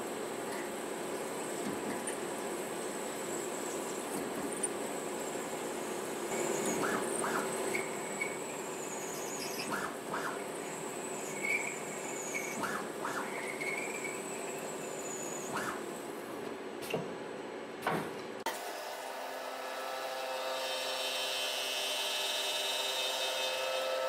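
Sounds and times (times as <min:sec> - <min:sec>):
lathe drilling hum and whine: 0:00.0 - 0:16.3, 0:18.5 - 0:24.0.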